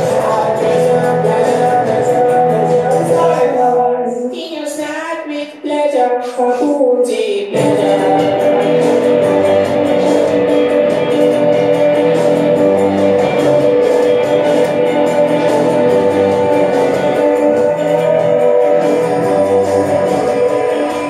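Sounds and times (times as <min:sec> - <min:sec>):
dance music with vocals and beat: 0:00.0 - 0:21.0.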